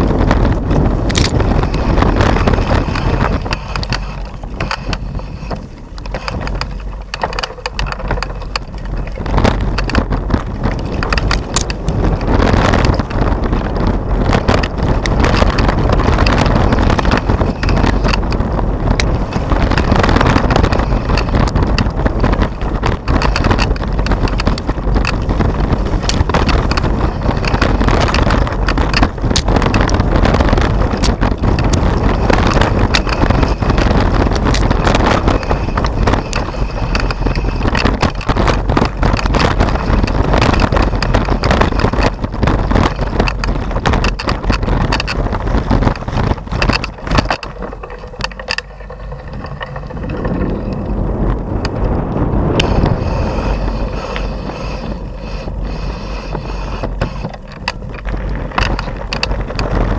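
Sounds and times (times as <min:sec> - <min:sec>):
bike rattling over dirt: 0:00.0 - 0:59.9
wind buffeting microphone: 0:00.0 - 0:59.9
sharp clicks: 0:00.5 - 0:55.5.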